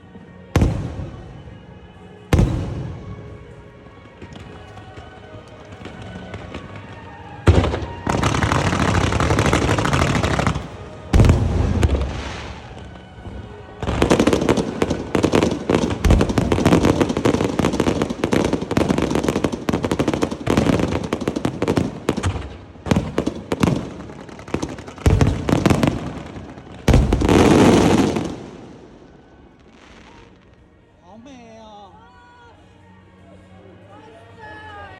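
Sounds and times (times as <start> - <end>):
firecrackers crackling and popping: 2.3 - 30.7.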